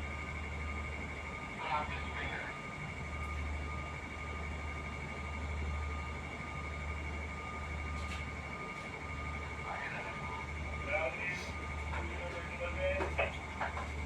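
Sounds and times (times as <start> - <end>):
ship engines humming: 0.0 - 14.0.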